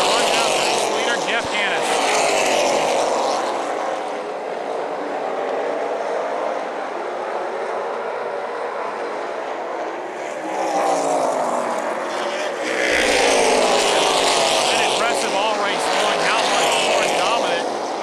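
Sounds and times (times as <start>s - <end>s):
race car engines racing: 0.0s - 18.0s.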